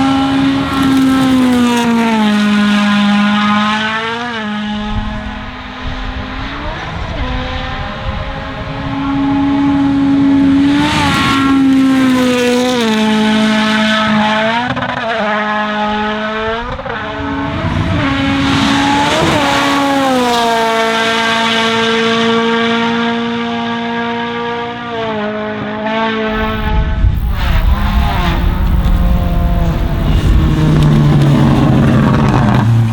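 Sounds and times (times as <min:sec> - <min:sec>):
rally car engine at high revs: 0:00.0 - 0:32.9.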